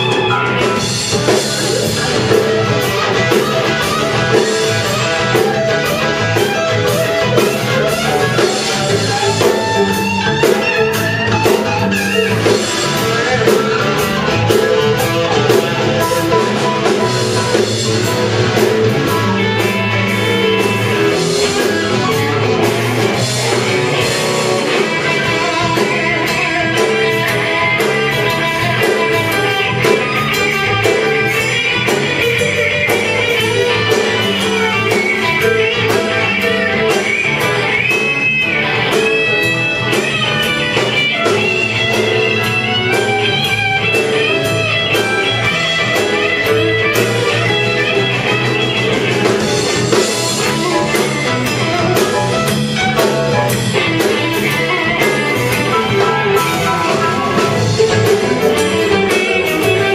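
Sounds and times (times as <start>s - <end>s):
lead guitar bending notes: 0.0s - 59.9s
live blues-rock band: 0.0s - 59.9s.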